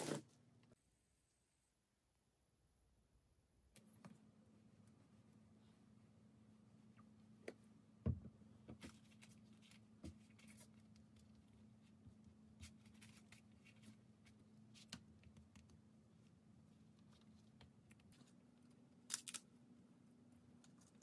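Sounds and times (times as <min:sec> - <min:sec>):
faint steady hum: 0:00.2 - 0:21.0.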